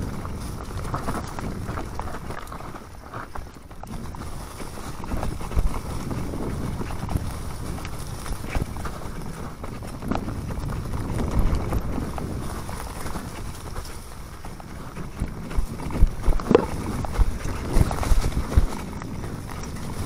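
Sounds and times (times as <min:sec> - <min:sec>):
bike knocking and rattling: 0:00.0 - 0:20.0
bike tyres rumbling on dirt: 0:00.0 - 0:20.0
wind on camera: 0:00.0 - 0:20.0.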